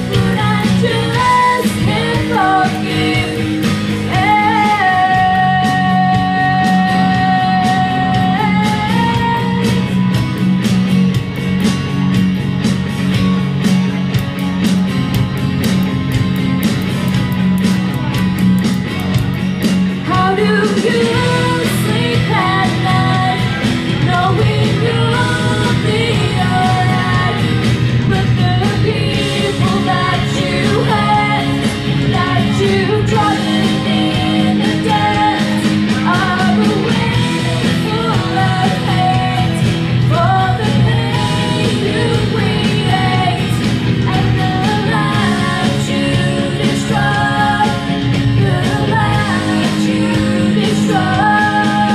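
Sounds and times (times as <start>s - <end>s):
woman singing into microphone: 0.0s - 10.0s, 20.0s - 51.9s
rock-pop backing track: 0.0s - 51.9s.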